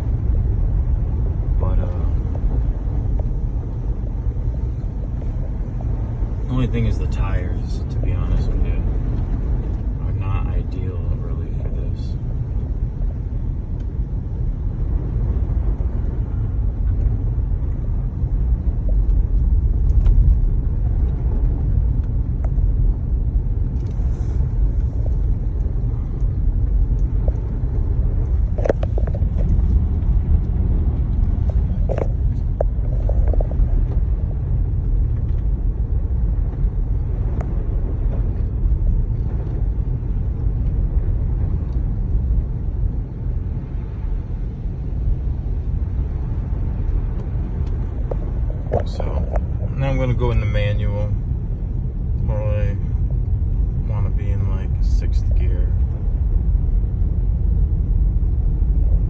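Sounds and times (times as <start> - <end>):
car cabin low rumble: 0.0 - 59.0.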